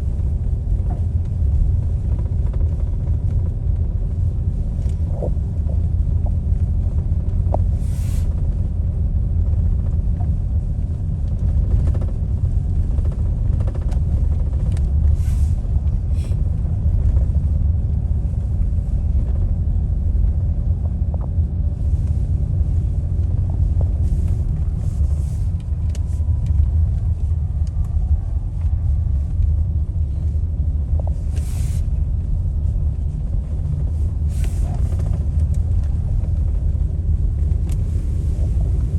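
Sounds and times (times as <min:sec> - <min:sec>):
car driving on road: 0:00.0 - 0:38.9.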